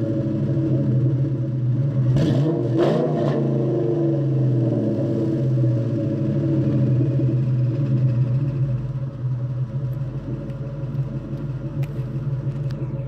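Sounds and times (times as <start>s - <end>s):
car engine idling: 0.0s - 2.2s, 3.6s - 13.0s.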